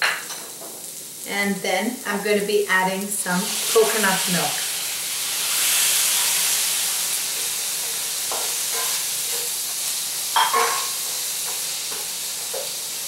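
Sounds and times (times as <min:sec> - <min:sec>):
liquid sizzling in a hot pan: 0:00.0 - 0:13.0.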